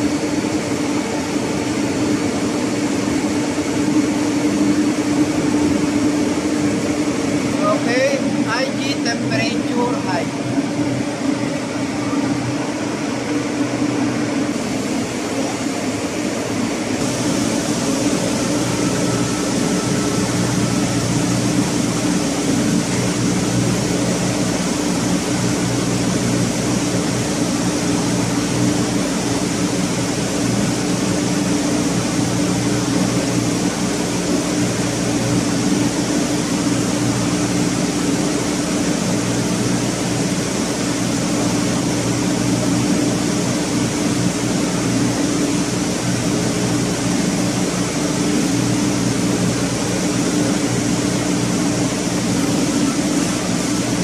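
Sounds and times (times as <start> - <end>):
low machinery hum: 0.0 - 54.0.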